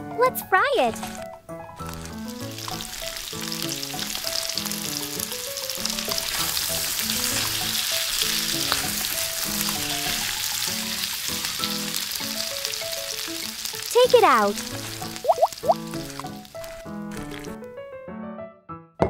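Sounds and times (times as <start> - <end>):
hot oil sizzling: 0.9 - 17.7.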